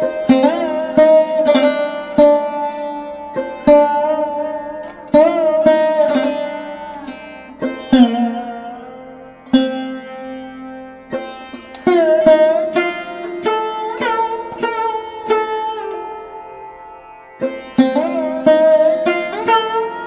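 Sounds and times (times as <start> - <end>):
plucked string instrument melody: 0.0 - 20.0.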